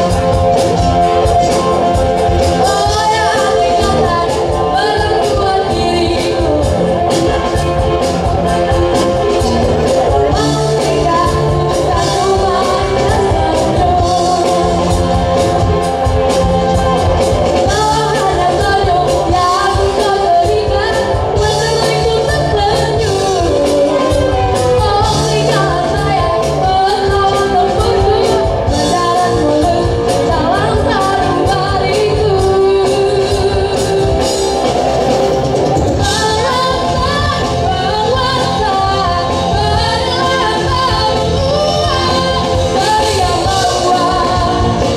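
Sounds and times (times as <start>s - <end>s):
woman singing: 0.0s - 34.7s, 36.0s - 44.9s
live rock band playing: 0.0s - 44.9s.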